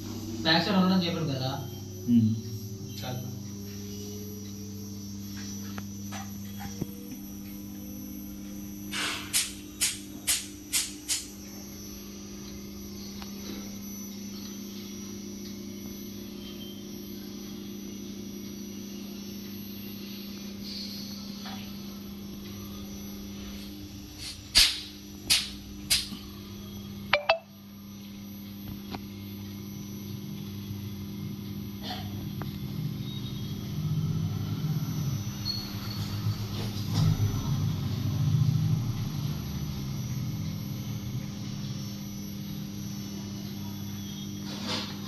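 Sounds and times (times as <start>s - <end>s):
steady electrical hum: 0.0s - 45.0s.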